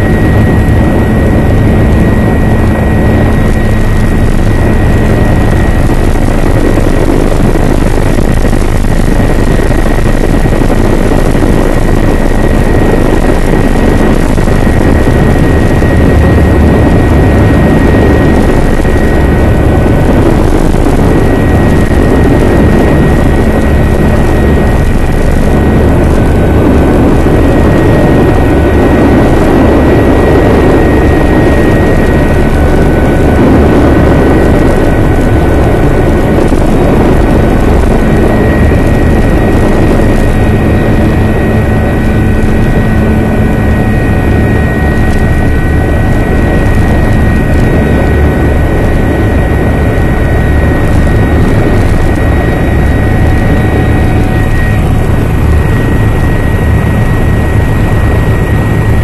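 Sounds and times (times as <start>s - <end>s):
helicopter rotor and engine noise: 0.0s - 59.0s.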